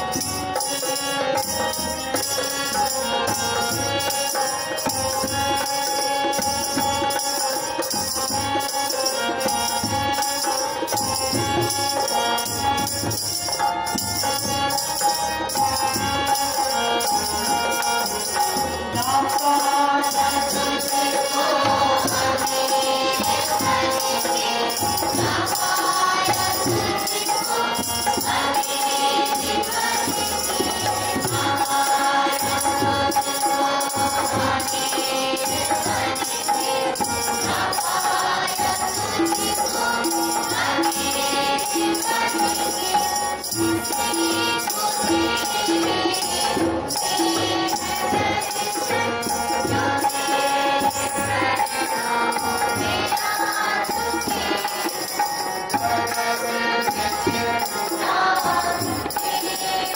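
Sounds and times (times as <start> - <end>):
group singing devotional song: 0.0 - 59.9
hand drums: 0.0 - 59.9
jingling beat: 0.0 - 59.9.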